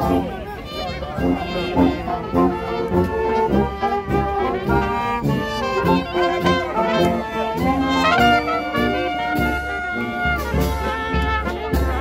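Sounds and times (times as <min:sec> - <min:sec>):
marching brass band playing: 0:00.0 - 0:12.0.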